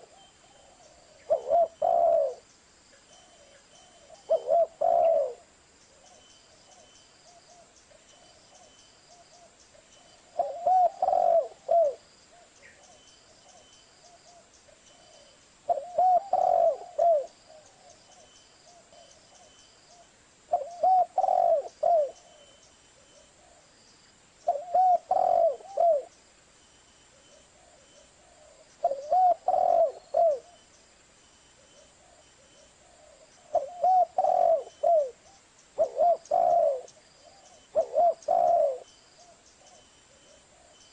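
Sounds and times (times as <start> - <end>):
dove cooing: 0.0 - 2.4, 3.2 - 7.7, 8.4 - 23.7, 24.4 - 26.2, 27.1 - 30.7, 31.6 - 40.8.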